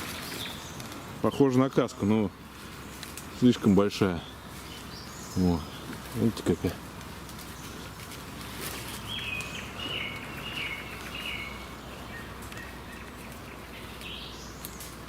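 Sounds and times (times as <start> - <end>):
small songbird chirping: 0.0 - 1.5, 2.6 - 15.0
low background noise: 0.0 - 15.0.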